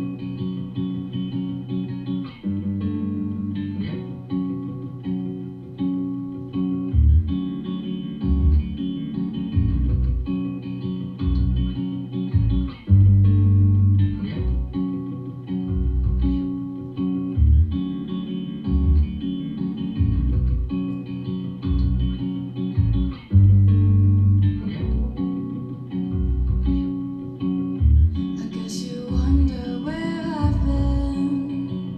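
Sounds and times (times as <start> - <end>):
guitar music with deep bass: 0.0 - 31.9.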